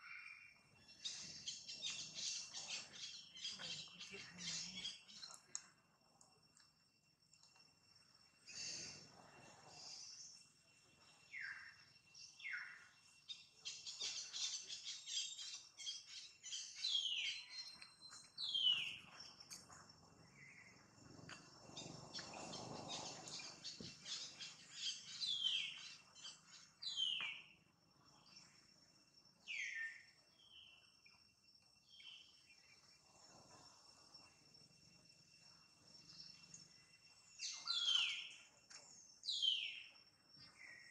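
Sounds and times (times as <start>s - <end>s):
birds chirping: 0.0s - 5.6s, 8.4s - 28.7s, 31.8s - 40.9s
faint high insect whine: 0.0s - 40.9s.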